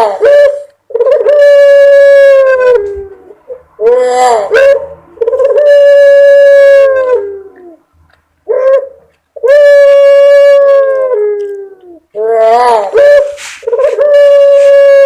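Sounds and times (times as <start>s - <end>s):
dove cooing: 0.0s - 7.8s, 8.5s - 15.0s.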